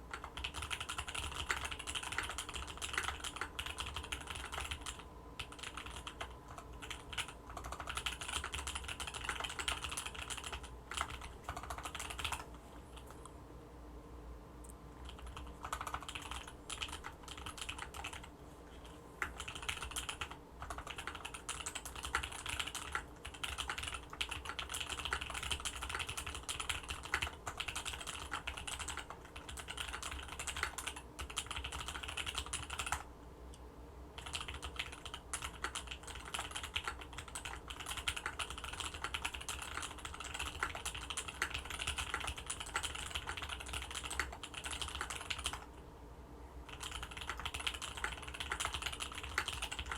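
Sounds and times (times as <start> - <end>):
mechanical keyboard typing: 0.1 - 13.2, 15.0 - 18.3, 19.2 - 33.1, 34.2 - 45.7, 46.7 - 49.9.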